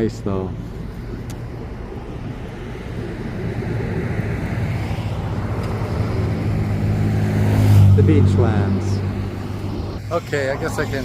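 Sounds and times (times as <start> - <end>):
road noise: 0.0 - 11.0
vehicle engine hum: 0.0 - 11.0.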